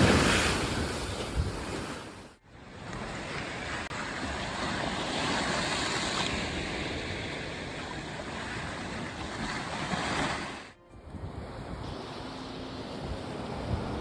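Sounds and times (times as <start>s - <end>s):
sea surf breaking on beach: 0.0s - 14.0s.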